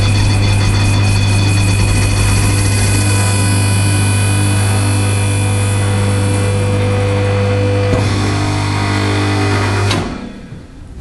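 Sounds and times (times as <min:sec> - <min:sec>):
baler motor humming: 0:00.0 - 0:10.6
high whine: 0:00.0 - 0:11.0.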